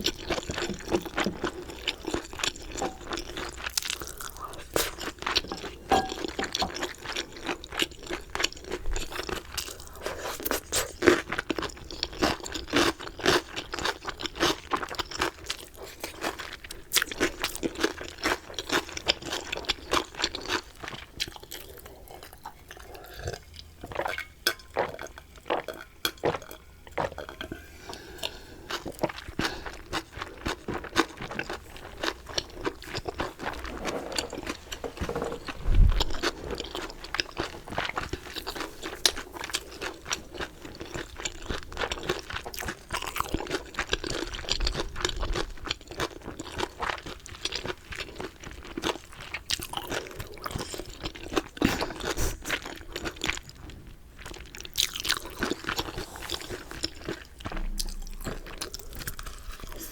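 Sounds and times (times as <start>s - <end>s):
crunching and chewing crispy chicken: 0.0s - 59.9s.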